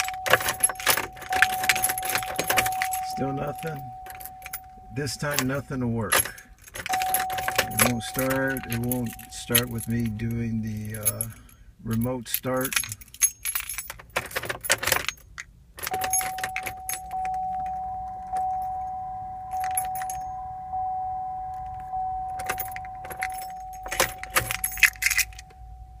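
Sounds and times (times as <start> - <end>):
car warning chime: 0.0 - 12.9, 15.8 - 26.0
keys jangling: 0.0 - 20.4, 21.5 - 25.7.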